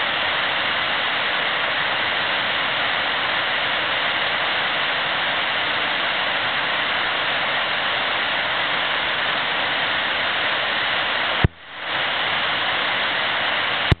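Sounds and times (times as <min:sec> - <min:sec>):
river water rushing: 0:00.0 - 0:13.9.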